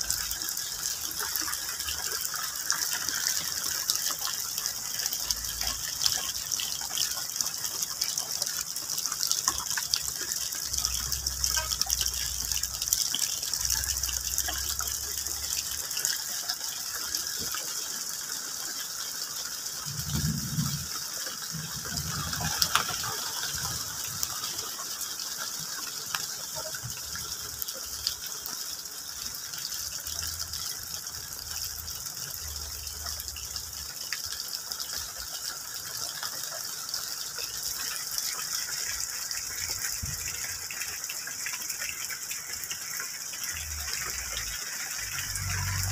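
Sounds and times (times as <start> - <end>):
rain pattering on leaves: 0.0 - 45.9.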